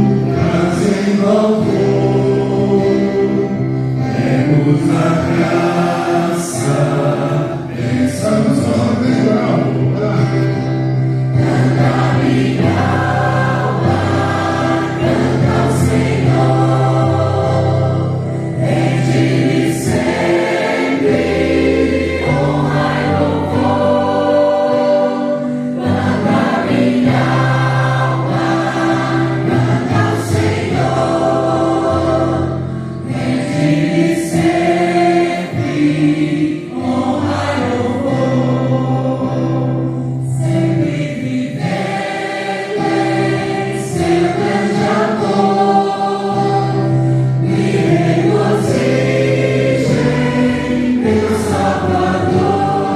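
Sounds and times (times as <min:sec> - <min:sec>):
church choir singing a hymn: 0:00.0 - 0:52.9.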